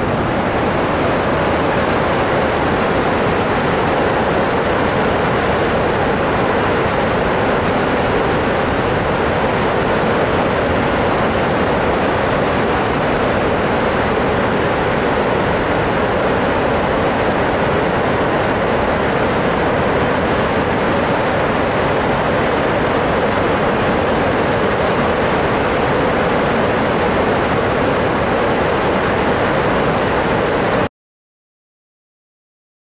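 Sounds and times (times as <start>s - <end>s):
rush of falling water: 0.0s - 30.9s.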